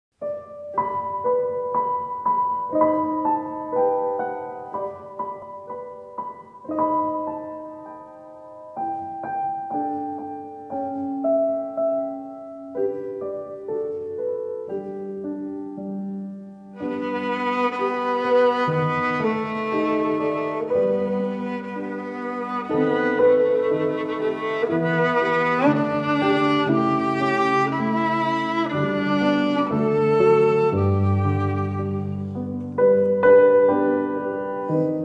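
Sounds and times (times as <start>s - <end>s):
piano music: 0.1s - 35.0s.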